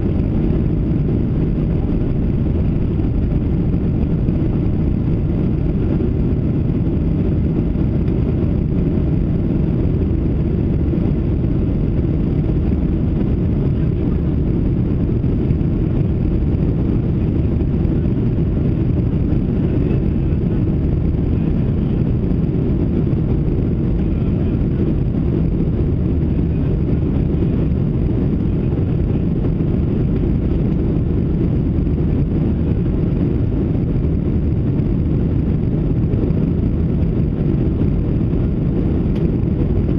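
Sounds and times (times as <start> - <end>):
airflow rush: 0.0 - 39.9
jet engine drone: 0.0 - 39.9.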